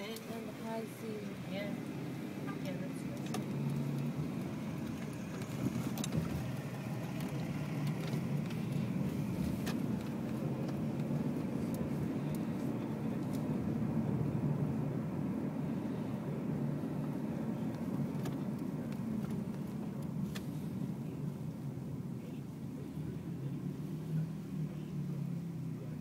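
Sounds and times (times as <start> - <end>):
car road noise and engine hum: 0.0 - 26.0.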